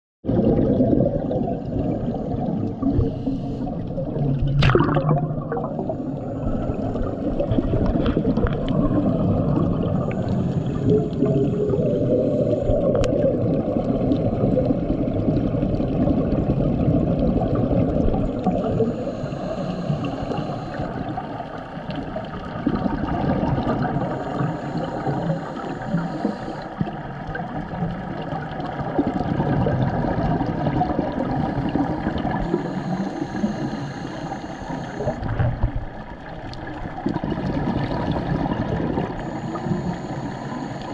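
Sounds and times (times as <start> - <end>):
underwater bubbles gurgling: 0.2 - 40.9.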